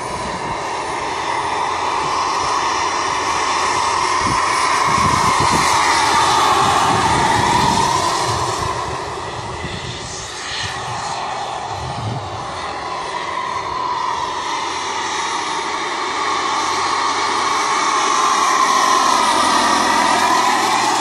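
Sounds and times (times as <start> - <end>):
model helicopter whine: 0.0 - 21.0.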